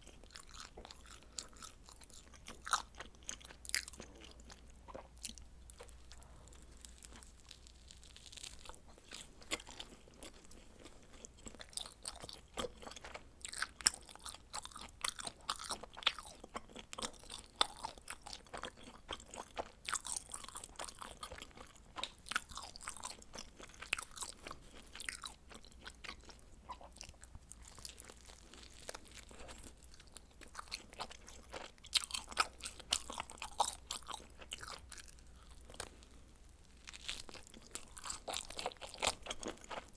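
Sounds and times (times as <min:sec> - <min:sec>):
chewing crisp pizza: 0:00.0 - 0:39.9.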